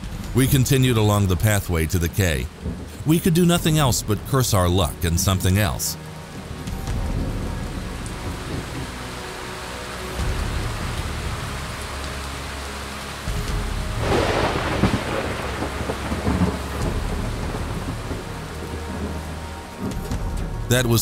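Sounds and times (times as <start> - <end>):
thunder rumbling: 0.0 - 9.3, 13.2 - 21.0
heavy rain: 0.0 - 21.0.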